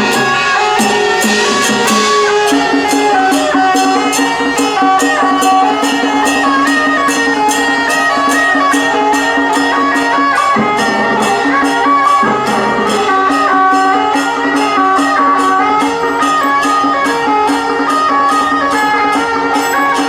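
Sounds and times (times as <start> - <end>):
bright percussion strikes: 0.0 - 20.0
reed instrument melody: 0.0 - 20.0.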